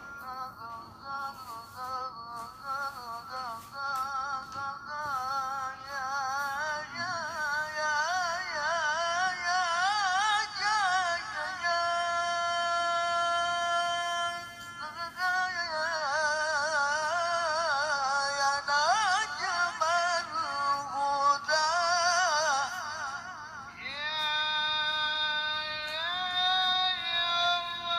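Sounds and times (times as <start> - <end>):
man reciting through a microphone: 0.0 - 27.9.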